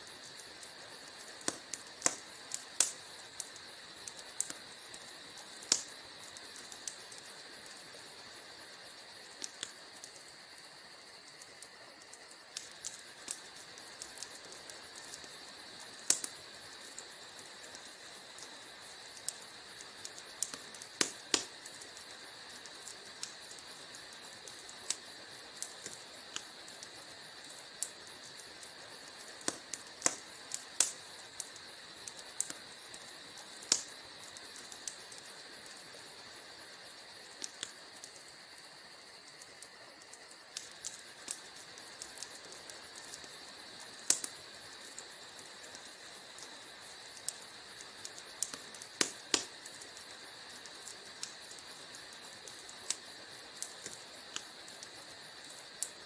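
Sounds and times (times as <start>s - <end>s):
soft fire hiss: 0.0s - 56.0s
wood fire crackling and popping: 0.0s - 56.0s.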